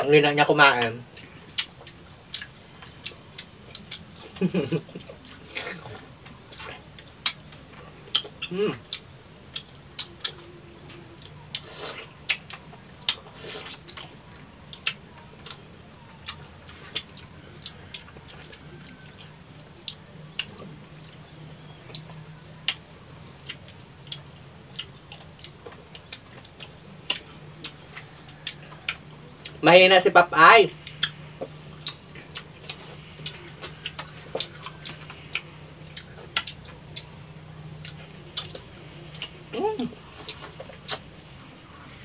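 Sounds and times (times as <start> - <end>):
faint low hum: 0.0 - 42.0
people chewing and lip smacking: 0.1 - 42.0.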